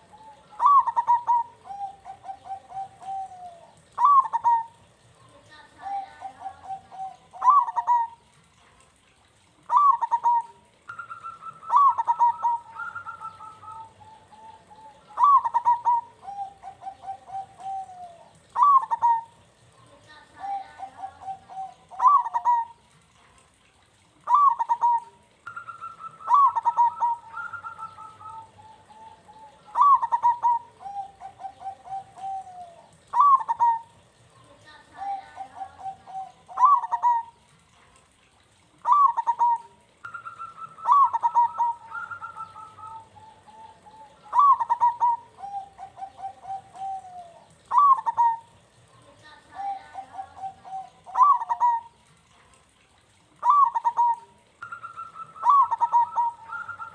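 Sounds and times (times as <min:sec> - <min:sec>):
dove cooing: 0:00.0 - 0:08.6, 0:09.2 - 0:23.1, 0:23.9 - 0:37.5, 0:38.2 - 0:56.9.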